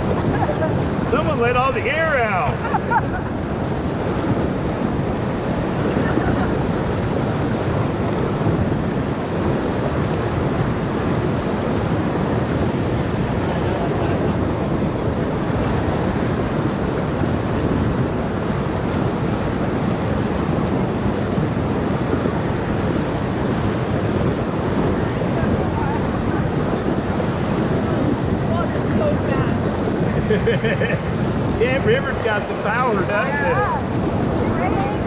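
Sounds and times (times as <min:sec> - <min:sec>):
river rapid rushing: 0:00.0 - 0:35.0.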